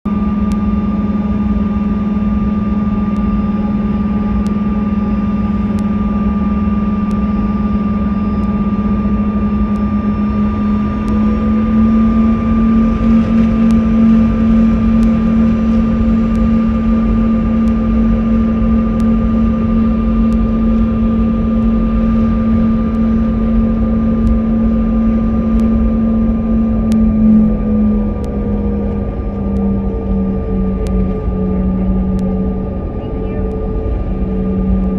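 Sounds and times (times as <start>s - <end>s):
jet engines droning: 0.1s - 34.9s.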